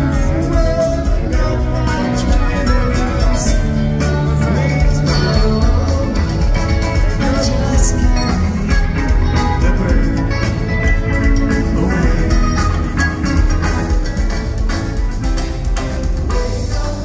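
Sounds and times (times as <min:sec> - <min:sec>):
bass guitar: 0:00.0 - 0:17.0
drums playing: 0:00.0 - 0:17.0
electric guitars: 0:00.0 - 0:17.0.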